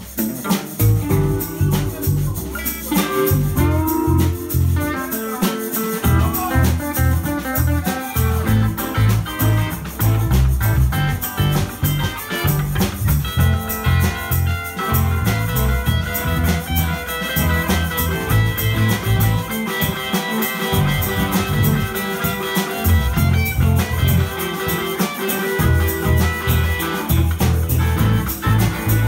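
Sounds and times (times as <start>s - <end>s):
bass guitar: 0.0s - 29.0s
drum kit beat: 0.0s - 29.0s
electric guitar: 0.0s - 29.0s.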